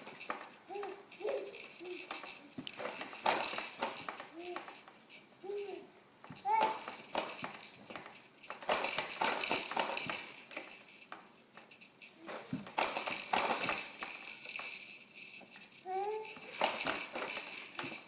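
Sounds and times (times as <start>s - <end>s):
plastic baby bouncer rattling: 0.0s - 18.0s.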